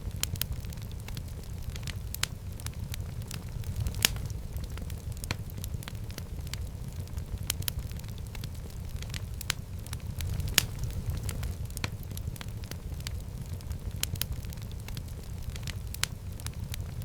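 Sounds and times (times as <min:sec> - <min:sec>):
crackles and pops of fire: 0:00.0 - 0:17.0
fire burning in fireplace: 0:00.0 - 0:17.0.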